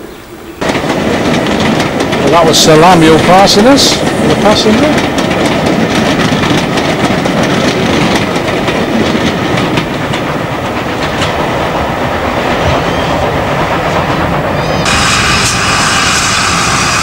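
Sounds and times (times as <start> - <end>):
steam train passing: 0.0 - 17.0
wheels clattering over rail joints: 0.6 - 14.6.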